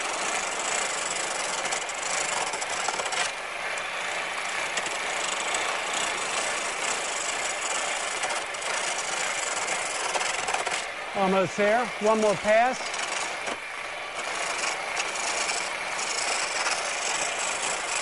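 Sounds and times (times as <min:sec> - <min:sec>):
gouge cutting wood on lathe: 0:00.0 - 0:18.0.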